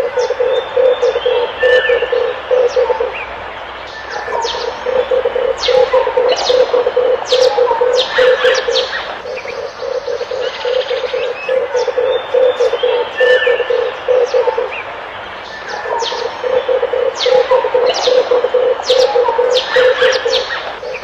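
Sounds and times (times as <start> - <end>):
dove cooing: 0.0 - 3.3, 4.0 - 14.9, 15.7 - 21.0
small birds chirping: 0.0 - 21.0.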